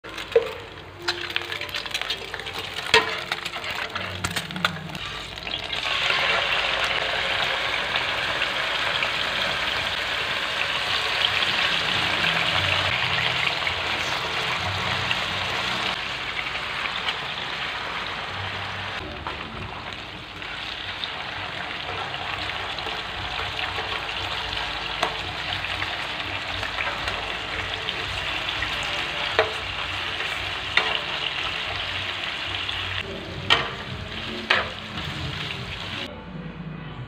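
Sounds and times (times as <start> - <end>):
crackles and pops of frying: 0.0 - 12.0, 12.8 - 36.1
steady sizzle of frying meat: 0.1 - 36.1.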